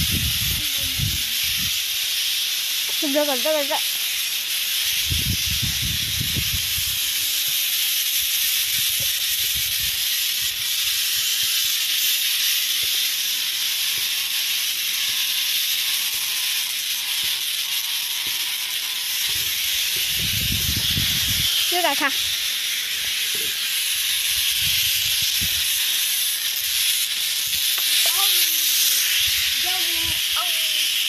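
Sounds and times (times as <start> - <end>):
high-pitched hiss: 0.0 - 31.0.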